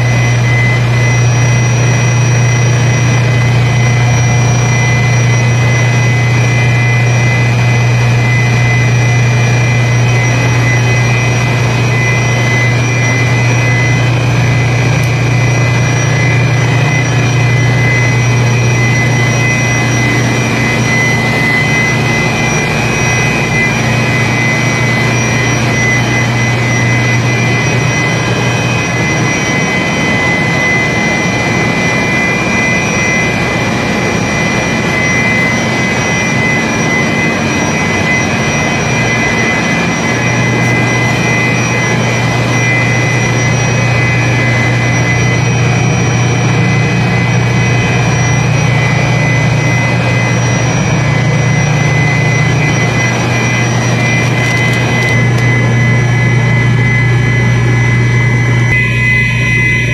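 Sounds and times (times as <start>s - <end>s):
chiller machinery low hum: 0.0s - 59.9s
high-pitched whining tones: 0.0s - 59.9s.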